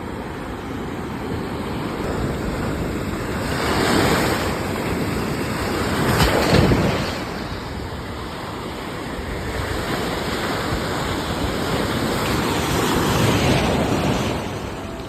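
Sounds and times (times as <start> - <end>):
sea waves on shore: 0.0 - 15.0.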